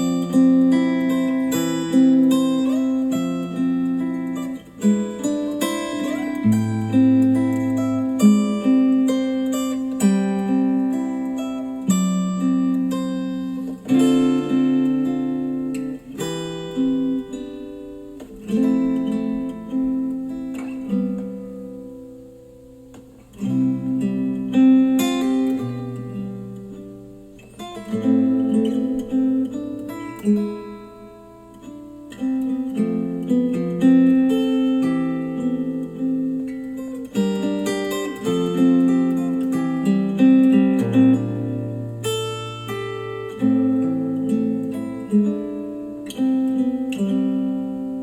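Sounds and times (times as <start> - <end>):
acoustic guitar chords over speakers: 0.0 - 48.0.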